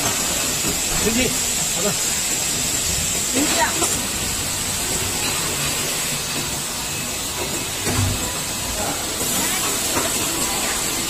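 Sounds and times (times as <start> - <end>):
factory machinery hissing: 0.0 - 11.0.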